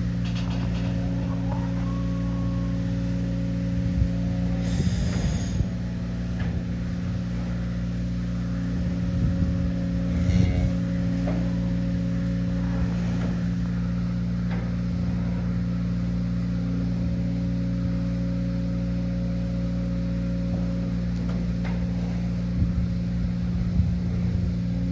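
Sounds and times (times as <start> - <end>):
low mechanical hum: 0.0 - 24.9.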